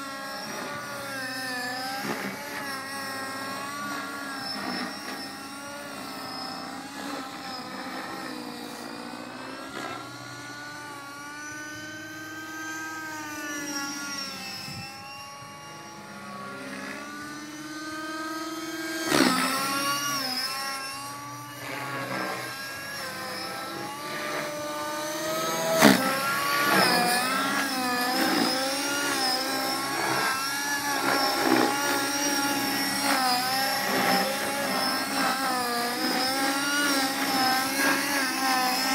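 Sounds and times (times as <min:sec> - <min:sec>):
model helicopter rotor whining: 0:00.0 - 0:38.9.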